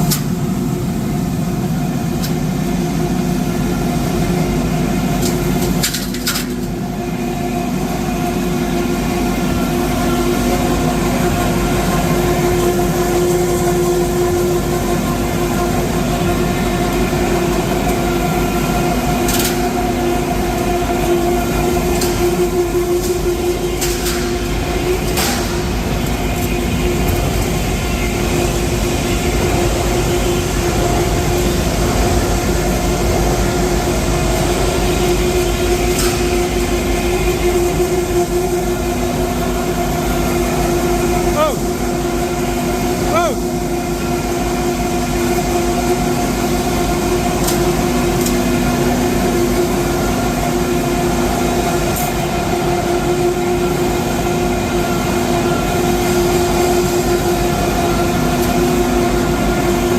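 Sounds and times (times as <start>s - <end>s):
machinery din with hum: 0.0s - 59.9s.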